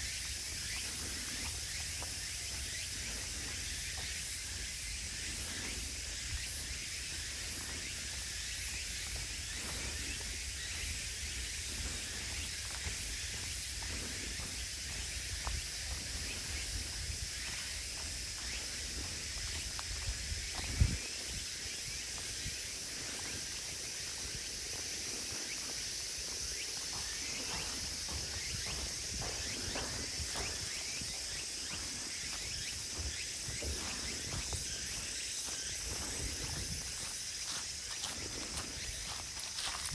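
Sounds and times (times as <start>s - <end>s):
insect chorus shrilling: 0.0s - 39.9s.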